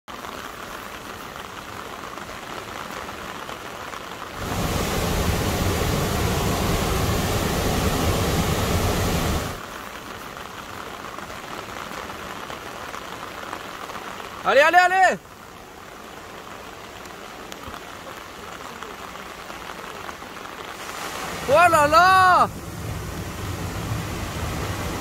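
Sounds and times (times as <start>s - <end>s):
rain and running water: 0.0s - 25.0s.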